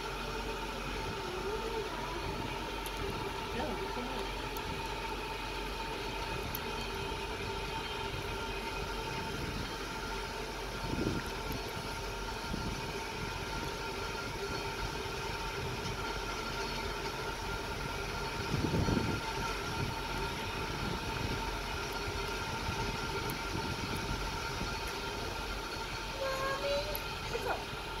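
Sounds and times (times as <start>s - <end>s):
railway car rumbling on track: 0.0s - 28.0s.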